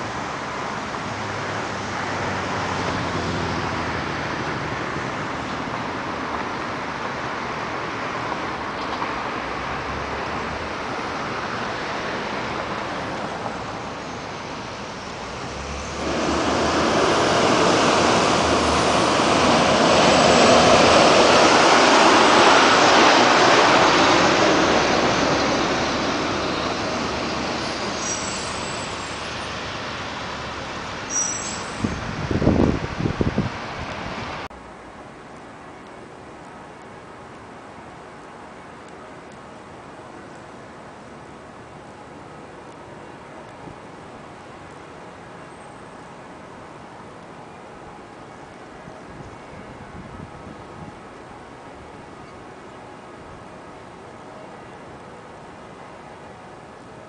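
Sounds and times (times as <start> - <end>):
road noise from passing cars: 0.0 - 57.0.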